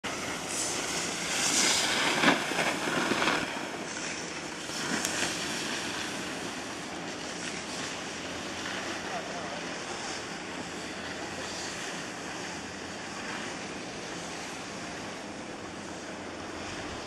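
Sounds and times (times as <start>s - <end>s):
skis scraping snow: 0.1s - 15.2s.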